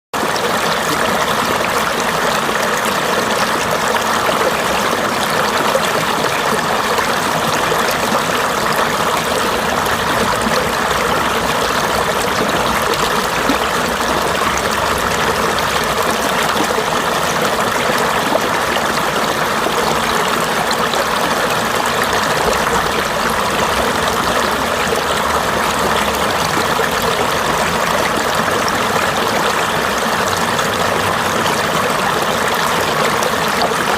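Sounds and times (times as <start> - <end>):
stream flowing over rocks: 0.2 - 33.9.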